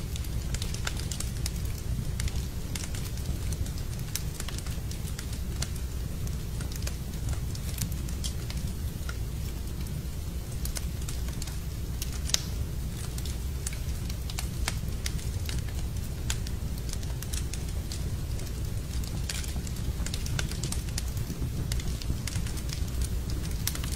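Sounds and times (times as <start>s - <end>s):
fire popping and snapping: 0.0s - 23.9s
low fire rumble: 0.0s - 23.9s.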